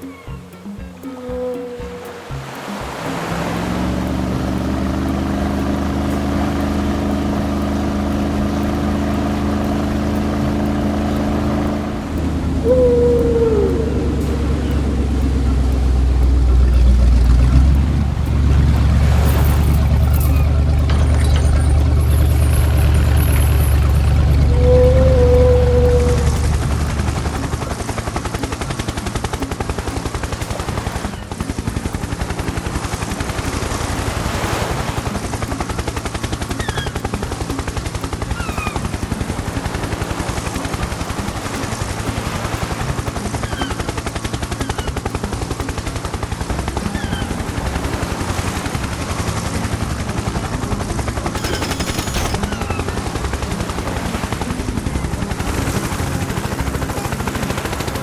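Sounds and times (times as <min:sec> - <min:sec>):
motor running with rattle: 0:00.0 - 0:58.0.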